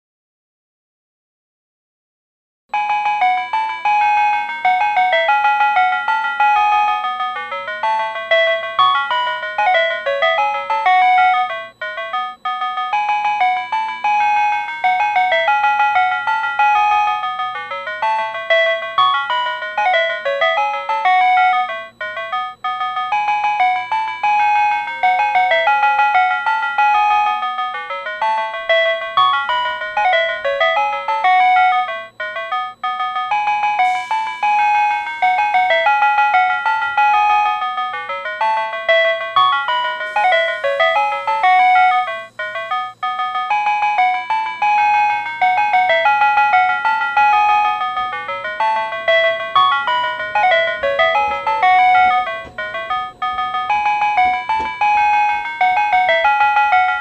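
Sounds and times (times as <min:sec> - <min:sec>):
electronic chiming melody: 0:02.8 - 0:57.0.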